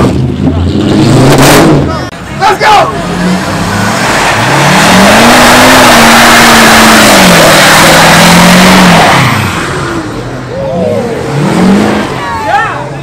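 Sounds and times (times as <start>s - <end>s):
tire spinning on pavement: 0.0s - 13.0s
truck engine revving: 0.0s - 13.0s.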